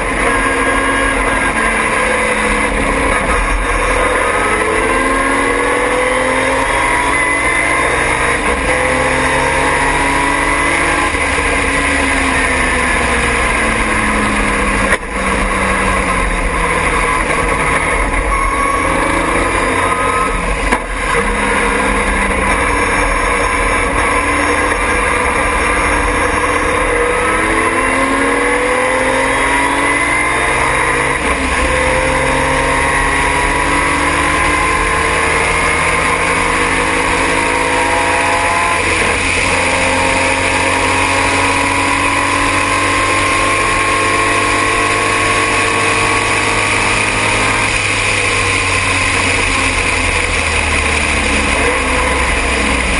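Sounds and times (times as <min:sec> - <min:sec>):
race car engine under load: 0:00.0 - 0:52.9
wind and road noise: 0:00.0 - 0:52.9.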